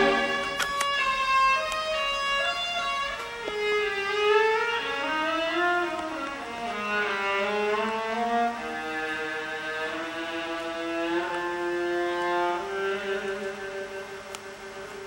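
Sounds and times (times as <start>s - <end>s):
orchestra with solo bowed strings: 0.0s - 15.0s.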